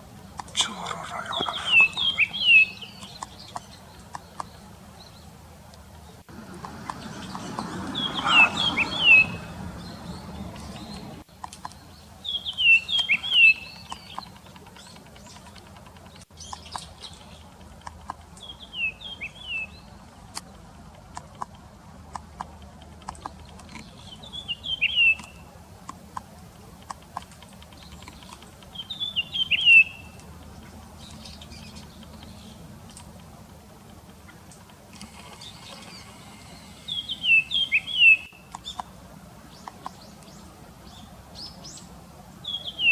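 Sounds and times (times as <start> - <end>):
bird calls: 0.0 - 20.6, 23.0 - 33.3, 34.0 - 42.9
faint clicks: 0.3 - 8.1, 9.7 - 18.6, 19.8 - 41.9.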